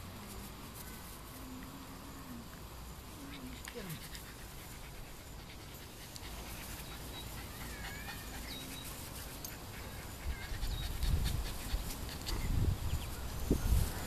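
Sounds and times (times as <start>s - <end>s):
puppies scuffling in grass: 0.0s - 14.0s.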